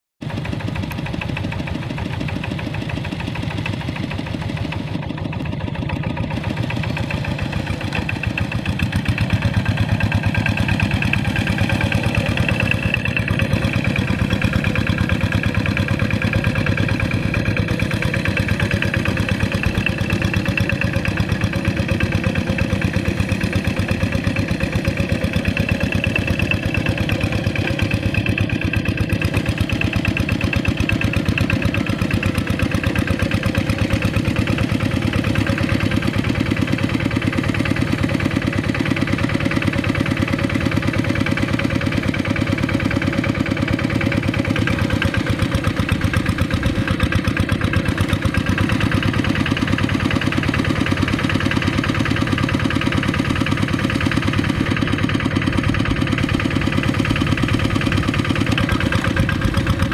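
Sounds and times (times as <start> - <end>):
hand tractor diesel engine running: 0.2 - 59.9.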